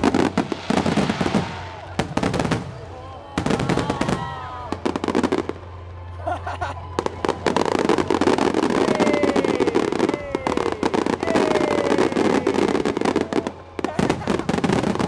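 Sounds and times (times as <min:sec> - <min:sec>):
fireworks bursting: 0:00.0 - 0:06.0, 0:06.9 - 0:15.0
music: 0:00.0 - 0:15.0.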